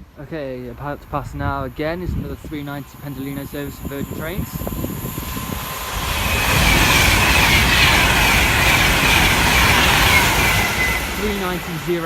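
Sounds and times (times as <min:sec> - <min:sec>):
electric train passing: 0:00.2 - 0:12.0.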